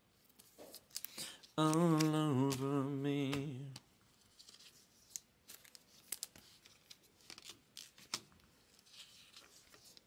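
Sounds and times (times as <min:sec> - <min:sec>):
cards rustling in plastic sleeves: 0:00.2 - 0:10.0.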